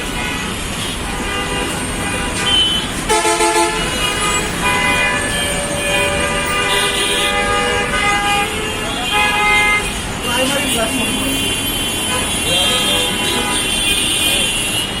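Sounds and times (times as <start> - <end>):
idling traffic rumble: 0.0 - 15.0
vehicle horns honking: 0.0 - 15.0
loud horn toots: 0.2 - 10.0, 11.0 - 15.0.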